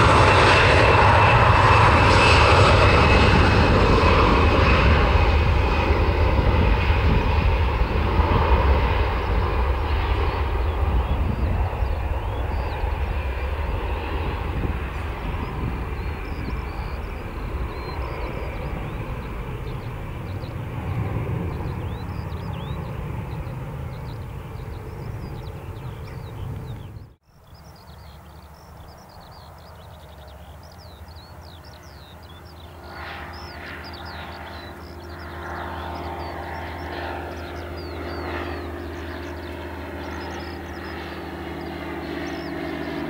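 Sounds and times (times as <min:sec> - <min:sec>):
birds chirping: 0:00.0 - 0:43.0
jet engine on runway: 0:00.0 - 0:43.0
jet engines climbing after takeoff: 0:00.0 - 0:43.0.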